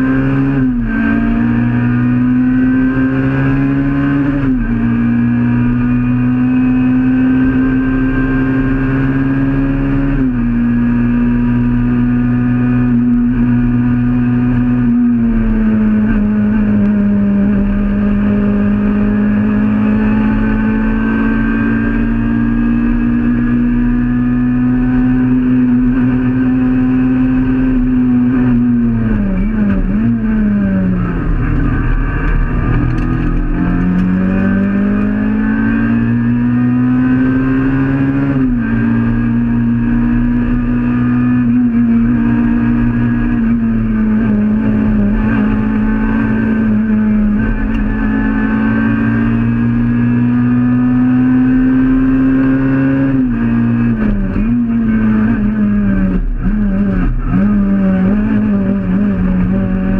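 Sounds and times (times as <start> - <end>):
car engine revving from inside cabin: 0.0 - 59.9.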